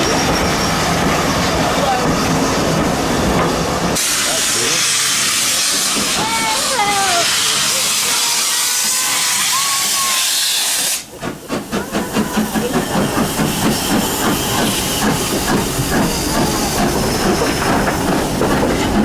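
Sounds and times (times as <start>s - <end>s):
steam locomotive hissing steam: 0.0s - 19.0s
train running rhythmic beat: 2.8s - 19.0s.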